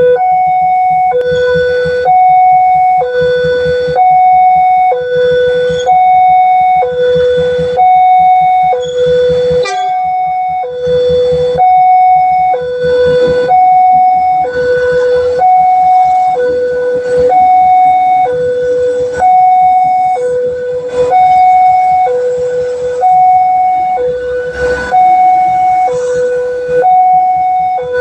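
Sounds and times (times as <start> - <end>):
two-tone crossing siren: 0.0 - 28.0.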